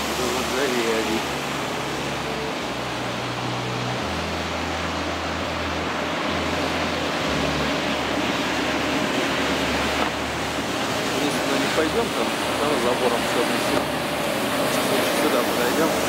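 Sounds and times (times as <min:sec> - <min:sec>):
street rushing noise: 0:00.0 - 0:16.0
traffic hum: 0:00.0 - 0:16.0.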